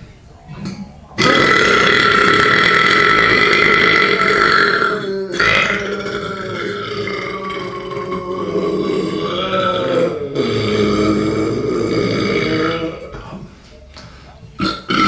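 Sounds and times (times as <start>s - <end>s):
loud belch: 0.6s - 13.2s, 14.6s - 15.0s.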